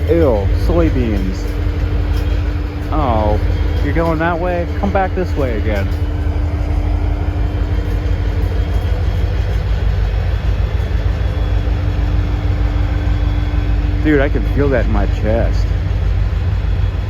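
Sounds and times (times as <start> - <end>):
diesel locomotive engine rumbling: 0.0 - 17.0
steady hum: 0.0 - 17.0.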